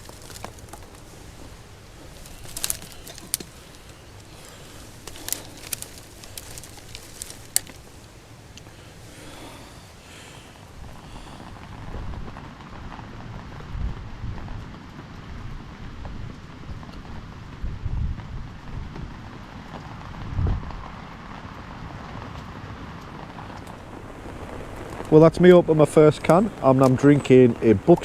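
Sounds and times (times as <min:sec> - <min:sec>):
campfire crackling and popping: 0:00.0 - 0:28.0
rain: 0:00.0 - 0:28.0
wind: 0:00.0 - 0:28.0.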